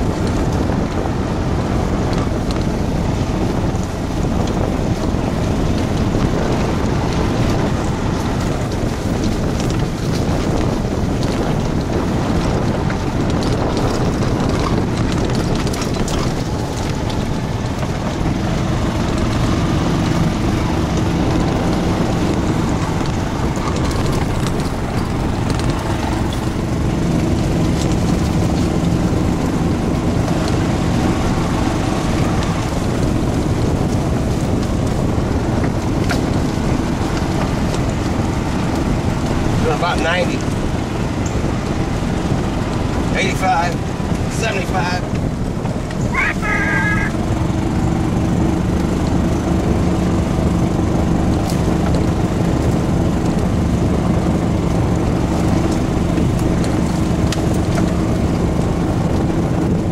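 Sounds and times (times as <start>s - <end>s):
golf cart running: 0.0s - 59.9s
wind buffeting microphone: 0.0s - 59.9s.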